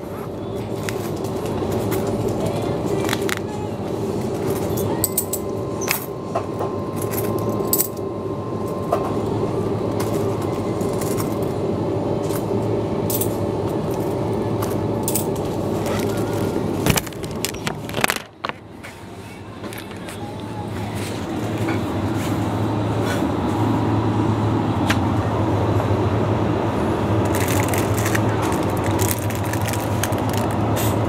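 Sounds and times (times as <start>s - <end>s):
shop hum: 0.0s - 31.0s.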